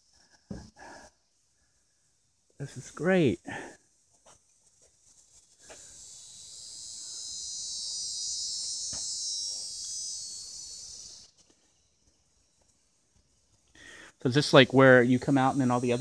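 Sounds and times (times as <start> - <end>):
insect buzzing: 0.0 - 16.0.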